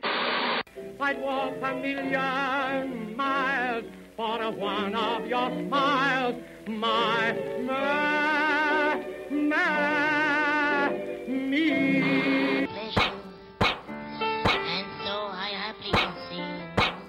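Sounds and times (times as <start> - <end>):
musical accompaniment: 0.7 - 17.0
person singing operatically: 0.9 - 13.5, 14.6 - 16.8.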